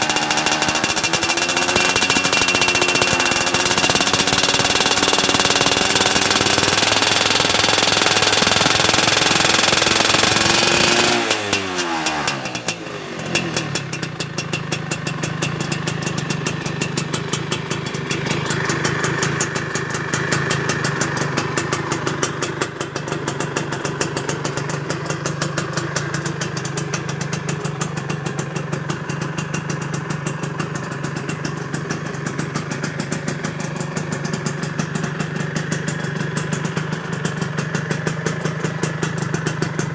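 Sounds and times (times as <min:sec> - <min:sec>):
two-stroke engine revving and idling: 0:00.0 - 0:39.9.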